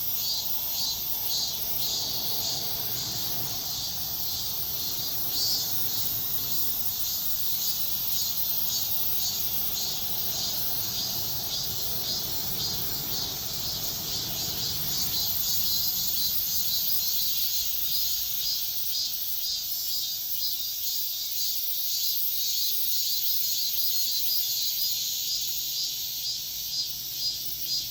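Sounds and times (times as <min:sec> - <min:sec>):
cicadas buzzing chorus: 0:00.0 - 0:27.9.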